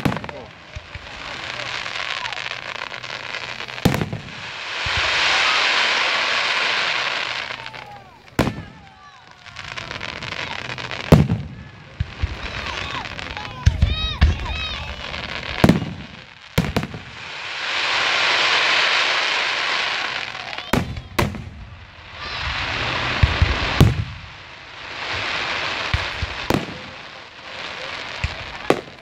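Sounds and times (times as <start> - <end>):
dense fireworks hiss: 0.0 - 29.0
fireworks bangs: 0.0 - 29.0.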